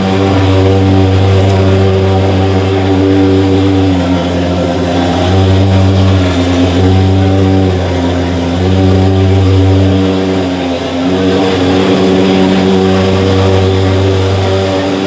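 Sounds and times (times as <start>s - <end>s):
fogging machine engine drone: 0.0s - 15.0s.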